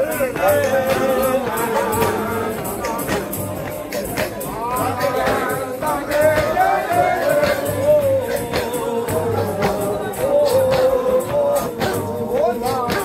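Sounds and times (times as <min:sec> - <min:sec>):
group singing a chant: 0:00.0 - 0:13.0
percussion beat: 0:00.0 - 0:13.0.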